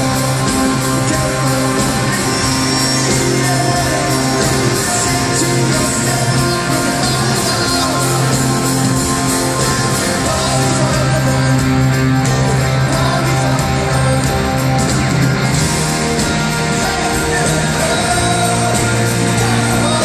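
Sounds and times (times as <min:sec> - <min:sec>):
person singing: 0:00.0 - 0:15.0, 0:15.7 - 0:20.0
drums: 0:00.0 - 0:20.0
electric guitars: 0:00.0 - 0:20.0.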